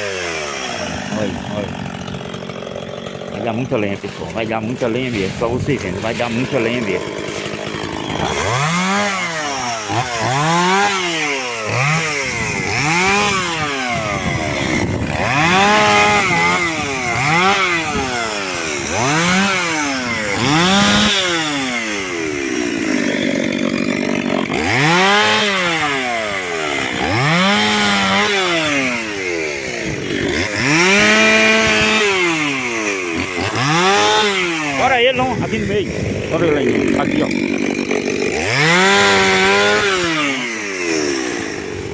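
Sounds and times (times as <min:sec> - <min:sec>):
chainsaw revving cutting wood: 0:00.0 - 0:41.9.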